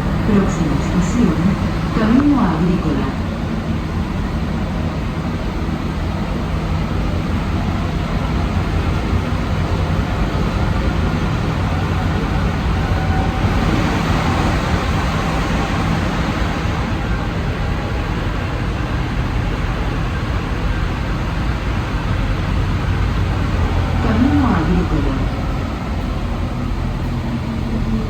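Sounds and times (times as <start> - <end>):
metro car rolling noise: 0.0 - 28.0.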